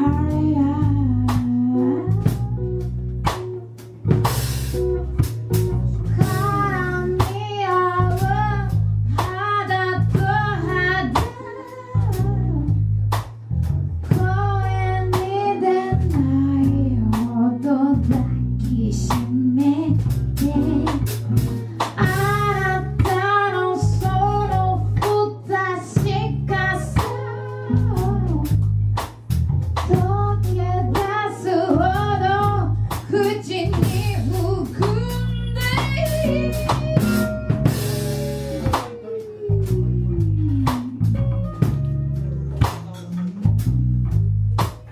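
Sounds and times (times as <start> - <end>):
guitar bass and drum kit: 0.0 - 44.9.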